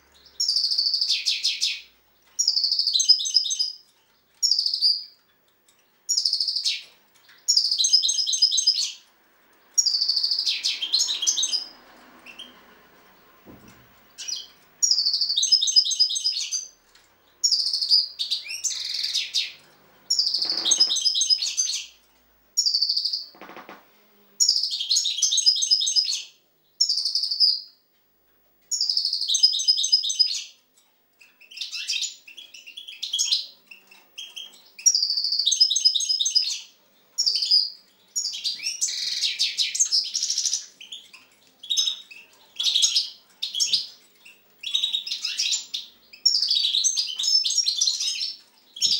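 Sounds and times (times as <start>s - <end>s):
goldfinch twittering song: 0.1s - 12.7s, 13.6s - 22.0s, 28.7s - 30.6s, 31.2s - 48.9s.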